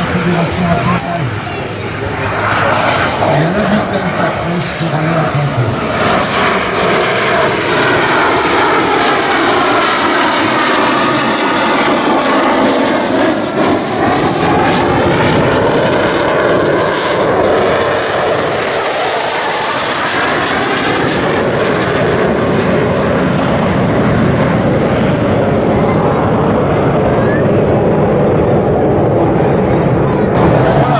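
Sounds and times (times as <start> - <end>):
jet flying past low: 0.0 - 30.9.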